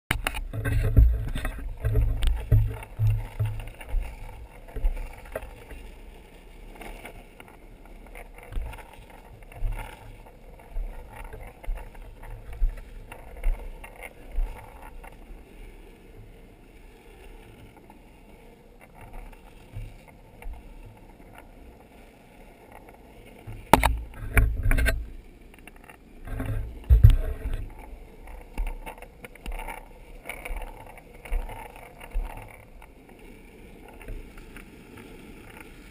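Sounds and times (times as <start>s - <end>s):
wheels rolling over asphalt: 0.1s - 35.9s.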